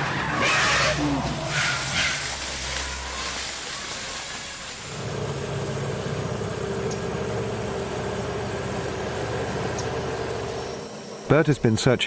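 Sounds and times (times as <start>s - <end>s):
engine running with rapid pulsing: 0.4s - 11.7s.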